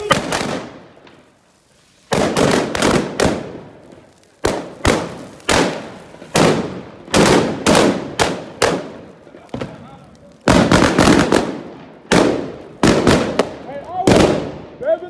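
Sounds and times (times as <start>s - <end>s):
firecrackers exploding: 0.0s - 15.0s.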